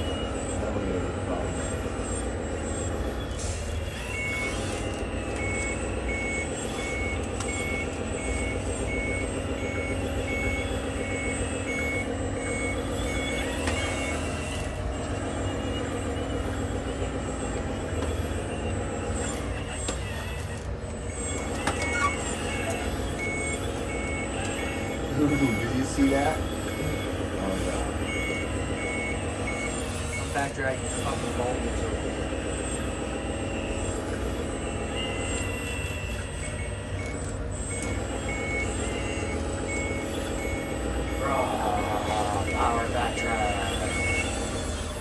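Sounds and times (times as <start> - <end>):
electric motors whining and humming: 0.0 - 45.0
reversing beeper: 0.0 - 45.0.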